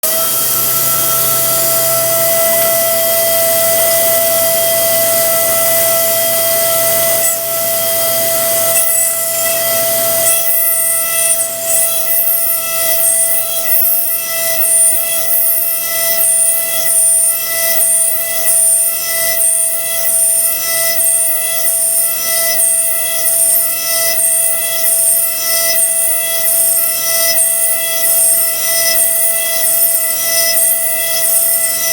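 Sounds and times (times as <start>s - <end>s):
milling machine grinding ceramic: 0.0s - 31.9s.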